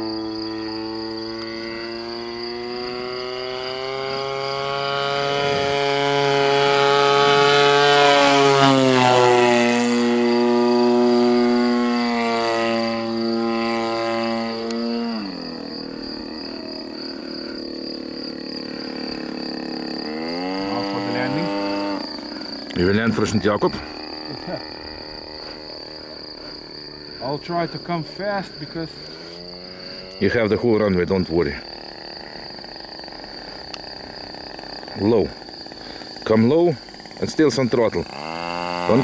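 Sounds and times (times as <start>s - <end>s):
model airplane engine flying overhead: 0.0s - 39.0s.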